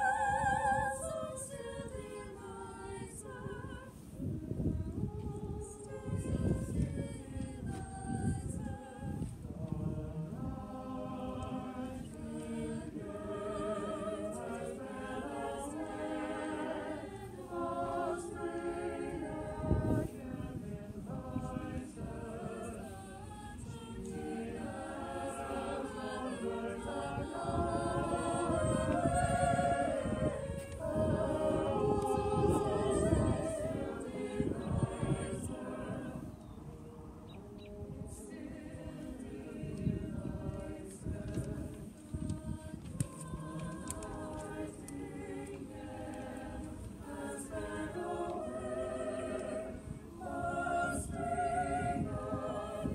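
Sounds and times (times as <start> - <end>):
small choir singing: 0.0 - 52.9.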